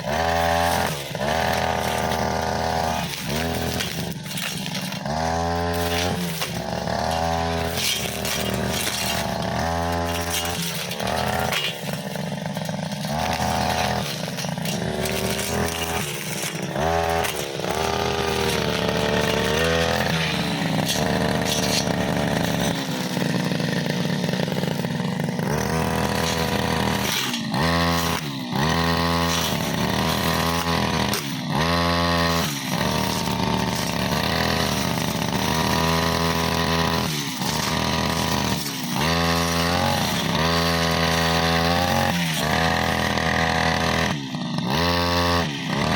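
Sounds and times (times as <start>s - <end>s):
brushcutter engine revving: 0.0s - 45.9s.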